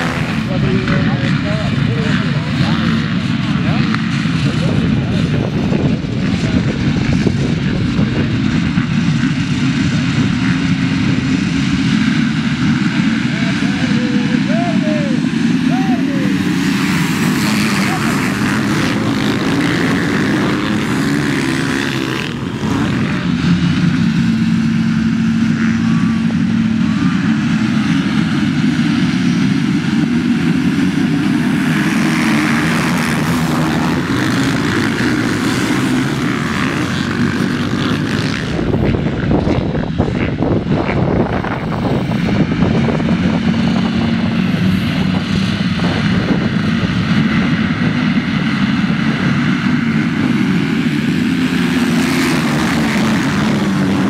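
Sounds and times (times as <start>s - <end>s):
motocross bike engines racing: 0.0s - 54.0s.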